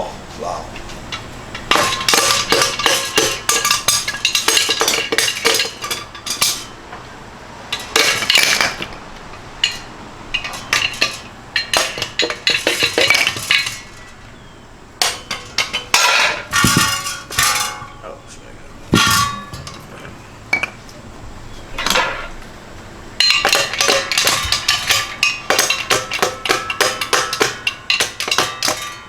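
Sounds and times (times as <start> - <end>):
metal tools clinking and clanking: 0.7 - 7.0, 7.7 - 9.0, 9.6 - 14.4, 15.0 - 18.3, 18.9 - 20.9, 21.7 - 22.4, 23.2 - 29.0.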